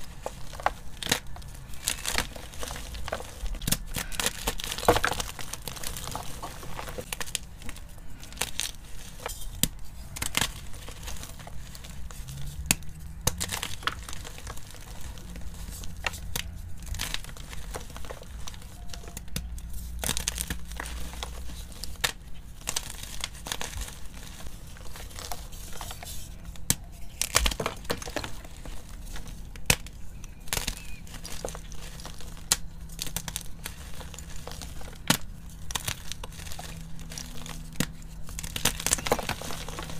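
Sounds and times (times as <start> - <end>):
chalk blocks crunching: 0.0 - 39.9.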